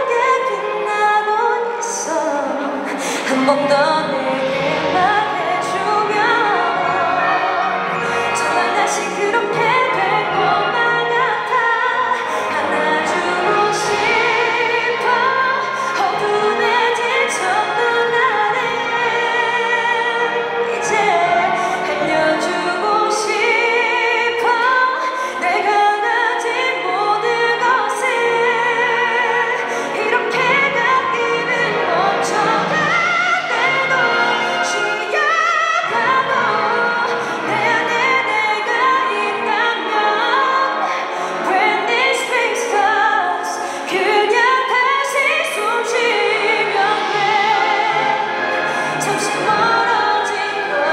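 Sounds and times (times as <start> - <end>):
woman singing a ballad: 0.0 - 6.7, 8.0 - 50.9
symphony orchestra playing: 0.0 - 50.9.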